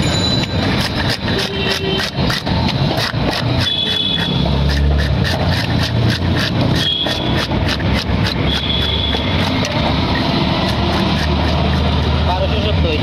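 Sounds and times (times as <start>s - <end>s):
fish scaler scraping scales: 0.0s - 12.8s.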